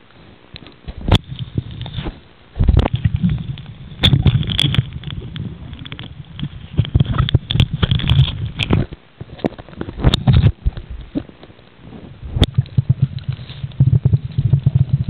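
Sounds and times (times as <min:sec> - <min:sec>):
water sloshing and bubbling: 0:00.0 - 0:15.0.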